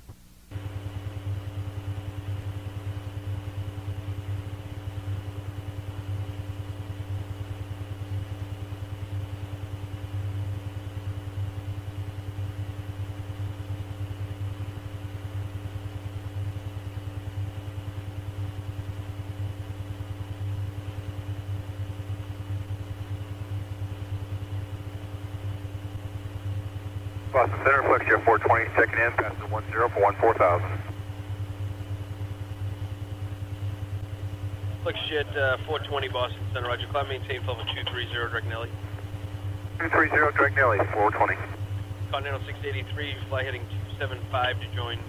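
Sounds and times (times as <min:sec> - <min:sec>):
faint steady tones: 0:00.0 - 0:45.0
low electrical hum and hiss: 0:00.0 - 0:45.0.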